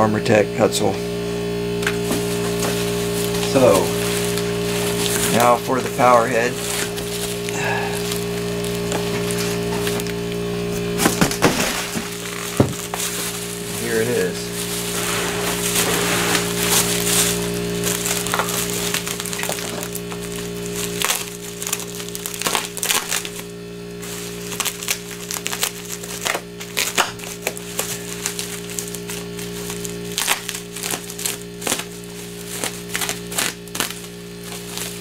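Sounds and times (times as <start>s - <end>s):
low hum: 0.2s - 35.0s
bubble wrap crinkling: 1.7s - 35.0s.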